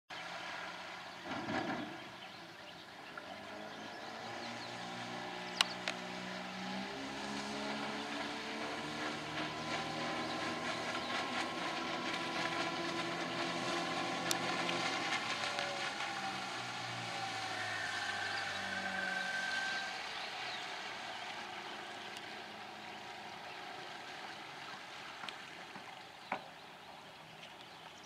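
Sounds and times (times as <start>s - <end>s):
outboard motor running: 0.6s - 28.0s.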